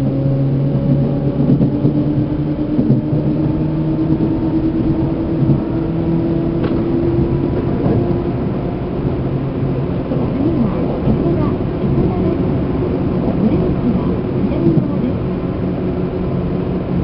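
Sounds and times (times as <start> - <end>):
steady train motor hum: 0.0 - 17.0
train wheel and track rumble: 0.0 - 17.0.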